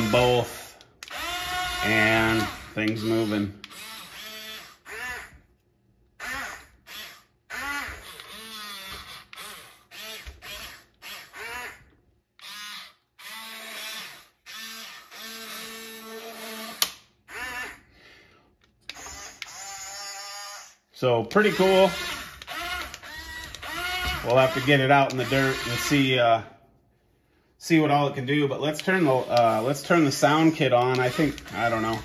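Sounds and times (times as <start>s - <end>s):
small electric motors whining: 0.0s - 5.3s, 6.2s - 17.8s, 18.9s - 20.8s, 21.4s - 26.1s, 28.9s - 32.0s.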